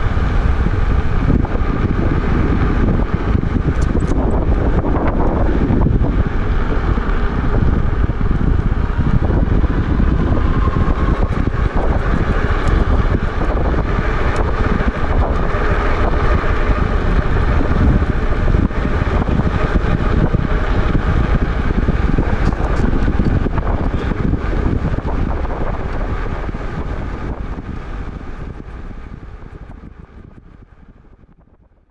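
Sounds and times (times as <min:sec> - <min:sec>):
road noise: 0:00.0 - 0:31.4
wind buffeting microphone: 0:00.0 - 0:31.9.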